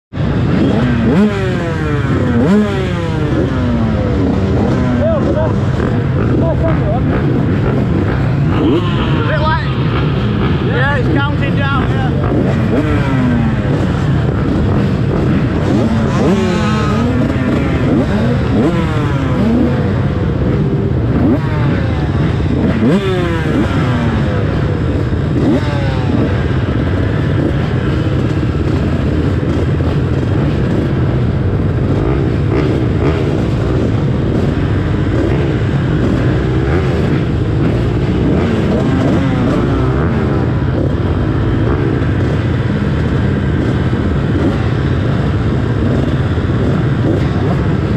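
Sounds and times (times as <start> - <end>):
motocross bikes revving: 0.2 - 47.9.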